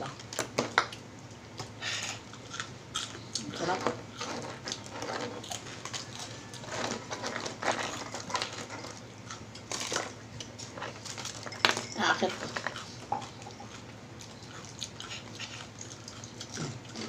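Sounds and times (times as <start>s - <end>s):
chewing crunchy fried chicken: 0.0s - 17.0s.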